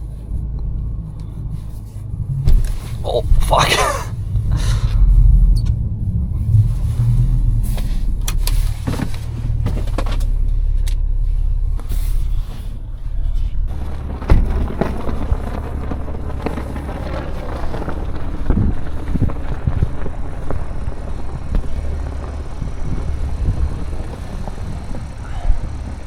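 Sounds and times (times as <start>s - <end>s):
car engine low drone: 0.0s - 26.0s.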